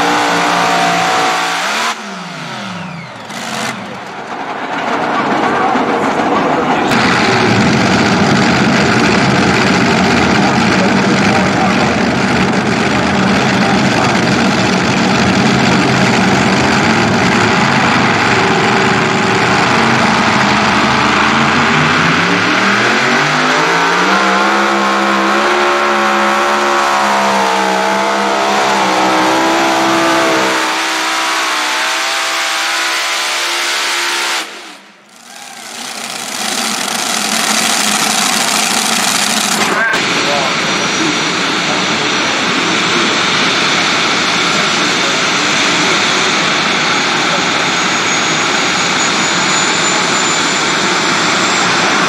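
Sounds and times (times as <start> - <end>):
pulling tractor engines running hard: 0.0 - 52.0.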